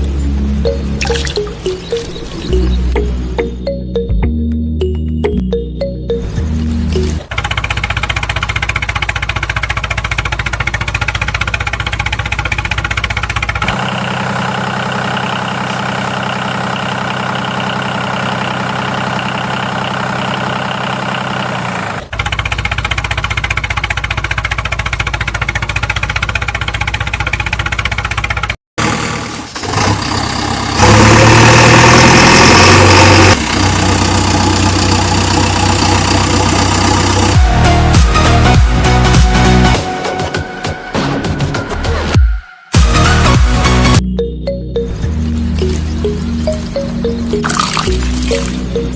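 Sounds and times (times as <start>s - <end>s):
vehicle engine running: 0.0s - 39.8s, 42.8s - 48.9s.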